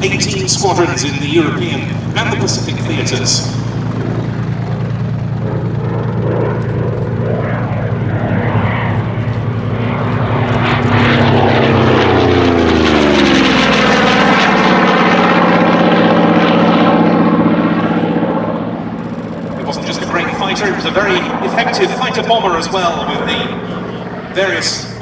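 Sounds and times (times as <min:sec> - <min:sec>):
propeller plane flying past: 0:00.0 - 0:25.0.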